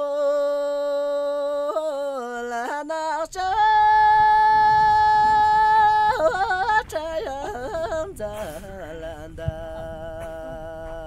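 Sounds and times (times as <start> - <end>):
person singing folk song: 0.0 - 11.0.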